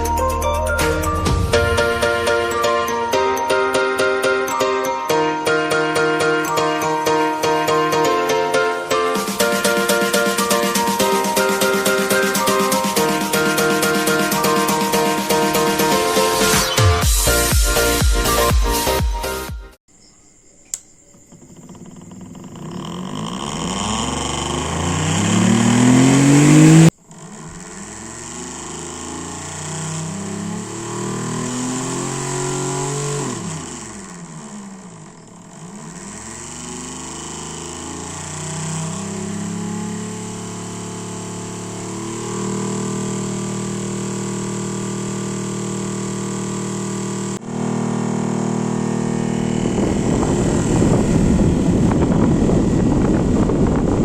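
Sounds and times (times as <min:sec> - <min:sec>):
electric motor whine: 0:00.7 - 0:18.0, 0:20.7 - 0:54.0.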